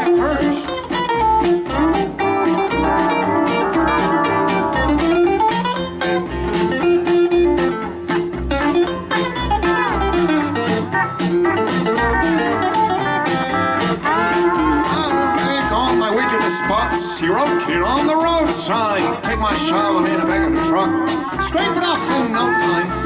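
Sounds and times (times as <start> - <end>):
country band instrumental: 0.0 - 23.0.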